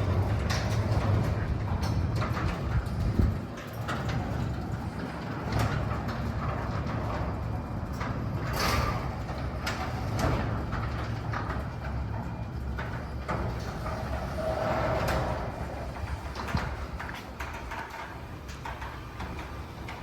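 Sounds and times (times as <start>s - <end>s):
garage door opener humming: 0.0s - 20.0s.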